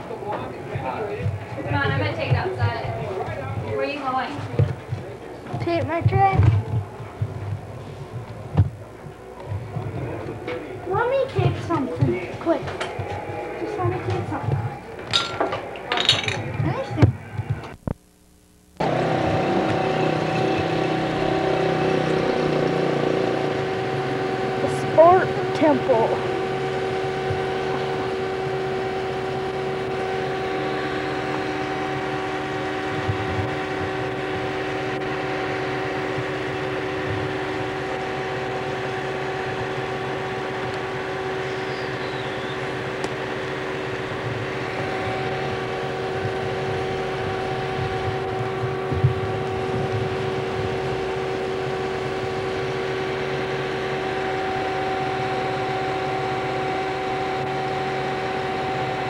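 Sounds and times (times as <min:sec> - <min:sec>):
held hum: 0:00.0 - 0:59.0
machine droning: 0:00.0 - 0:59.0.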